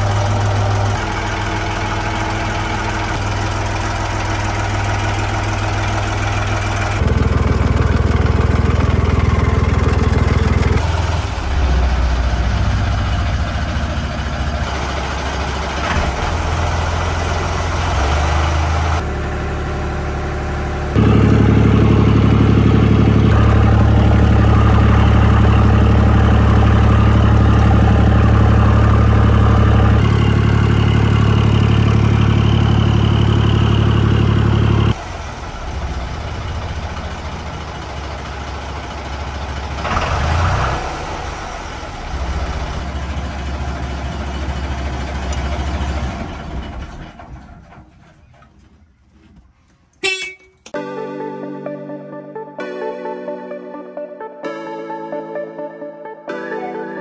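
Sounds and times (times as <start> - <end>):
boat engine idling: 0.0 - 49.0.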